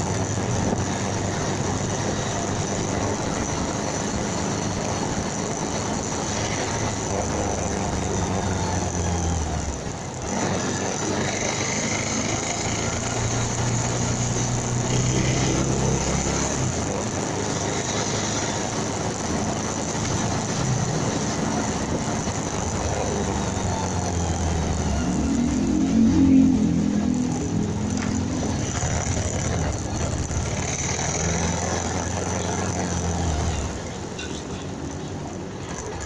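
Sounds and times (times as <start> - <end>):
motorcycle engine humming: 0.0 - 36.0
wind and road noise: 0.0 - 36.0.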